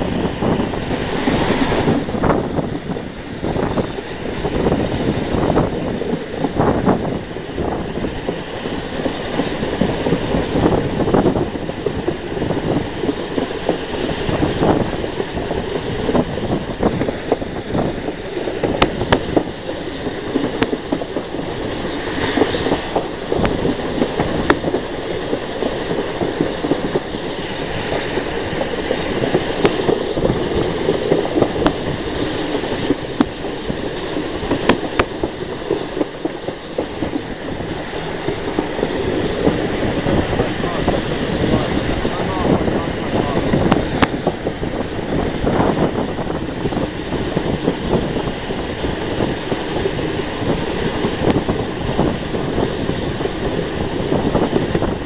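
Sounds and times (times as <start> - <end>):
train wheels and engine rumbling: 0.0 - 55.0.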